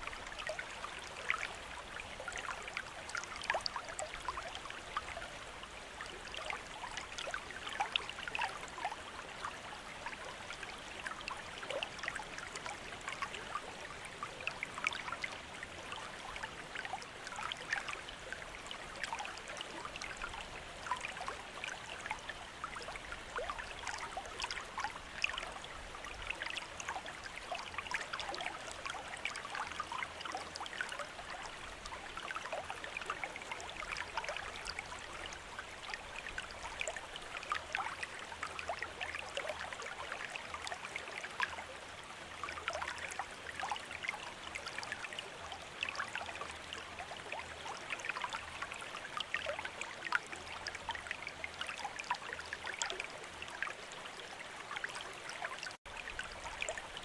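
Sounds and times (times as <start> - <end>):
water trickling into a basin: 0.0 - 57.0.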